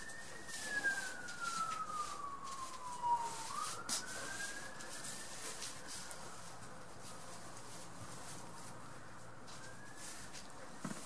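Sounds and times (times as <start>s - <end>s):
rustling of straw bedding: 0.0s - 11.0s.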